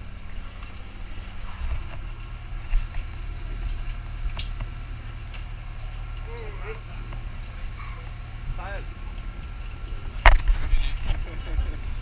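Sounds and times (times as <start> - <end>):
boat engine low drone: 0.0 - 12.0.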